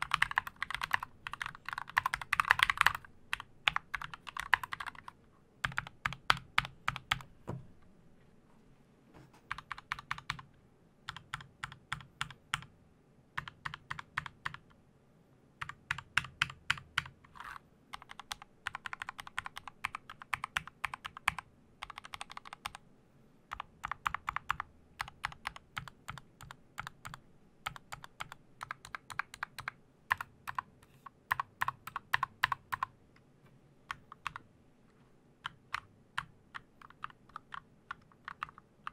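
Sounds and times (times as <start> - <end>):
mechanical keyboard typing: 0.0 - 7.3, 9.5 - 10.5, 11.1 - 12.7, 13.4 - 14.7, 15.6 - 22.8, 23.5 - 33.0, 33.9 - 34.4, 35.4 - 38.9.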